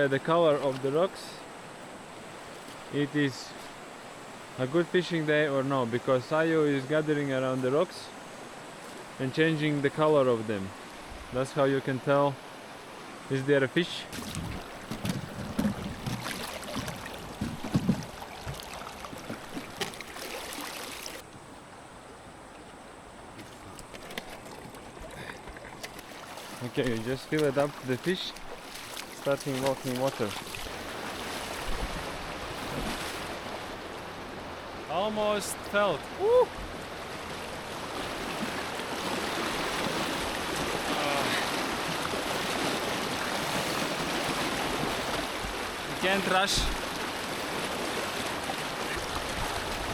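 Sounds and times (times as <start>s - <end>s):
river water running and splashing: 0.0s - 49.9s.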